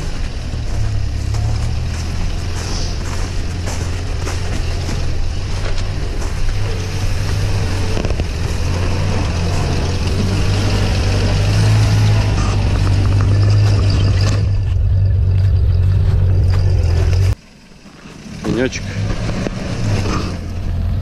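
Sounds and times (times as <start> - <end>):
van engine droning: 0.0 - 21.0.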